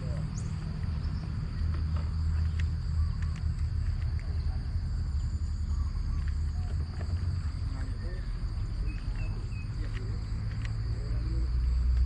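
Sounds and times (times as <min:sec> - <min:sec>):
high-pitched insect drone: 0:00.0 - 0:12.0
low rumble: 0:00.0 - 0:12.0.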